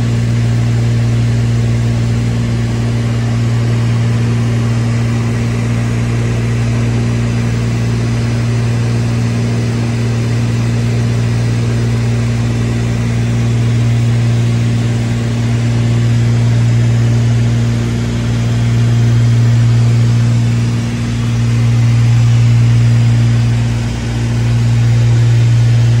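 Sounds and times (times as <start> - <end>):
light aircraft engine drone: 0.0 - 26.0.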